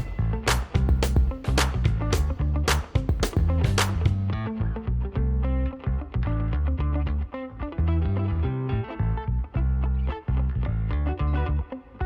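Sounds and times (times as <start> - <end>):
guitar and bass music: 0.0 - 12.0.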